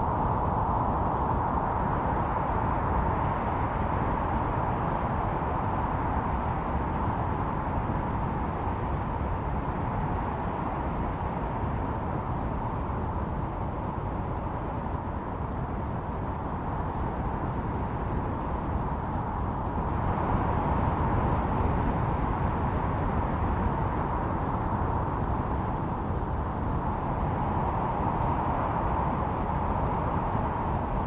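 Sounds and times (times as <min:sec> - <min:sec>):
snowstorm wind blowing: 0:00.0 - 0:31.0.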